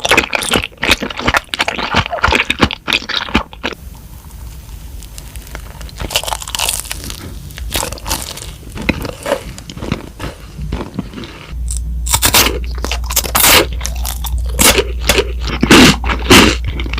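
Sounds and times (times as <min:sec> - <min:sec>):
crunchy bites and chewing: 0:00.0 - 0:03.8, 0:04.9 - 0:16.9.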